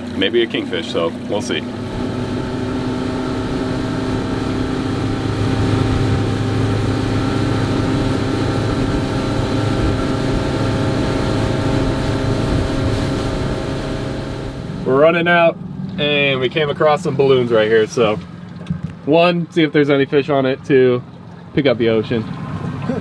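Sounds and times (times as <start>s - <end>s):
boat engine running: 0.0s - 23.0s
wind and water rushing: 0.0s - 23.0s.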